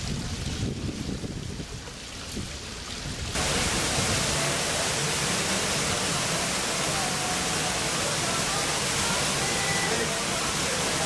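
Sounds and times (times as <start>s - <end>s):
water splashing and trickling: 0.0s - 11.0s
waterfall pouring into pool: 0.0s - 11.0s.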